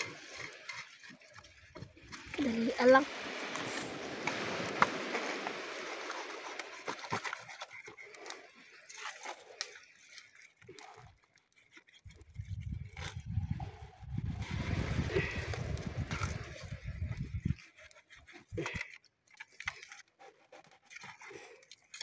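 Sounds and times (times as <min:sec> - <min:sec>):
knife scraping fish scales: 0:00.0 - 0:22.0.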